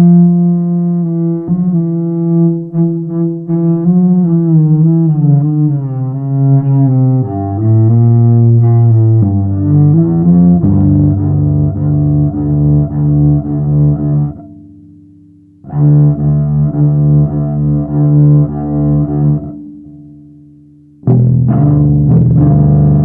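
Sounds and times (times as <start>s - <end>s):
double bass playing: 0.0s - 23.0s.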